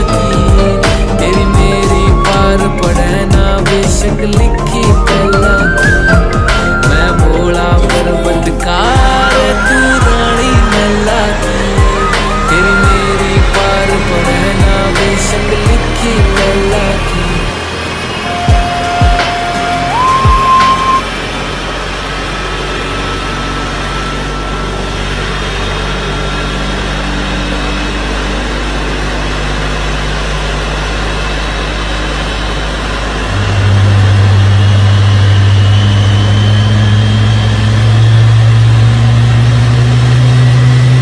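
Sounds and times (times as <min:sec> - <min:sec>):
deep hum: 0:00.0 - 0:41.0
mechanical engine drone with hiss: 0:00.0 - 0:41.0.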